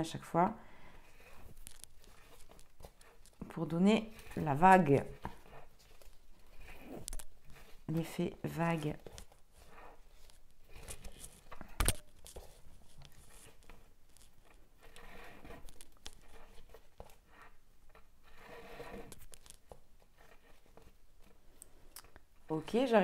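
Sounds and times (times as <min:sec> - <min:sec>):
cord rustling and rubbing: 0:00.0 - 0:23.0.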